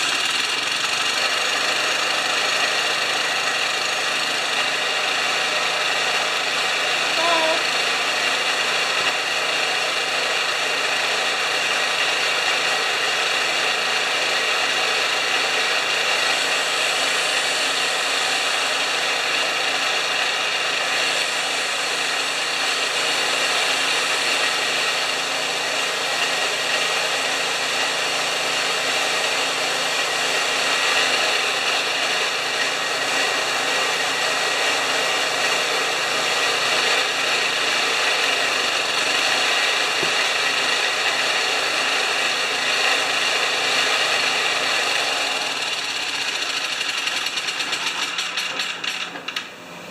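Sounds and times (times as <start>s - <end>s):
generator engine running: 0.0s - 49.9s.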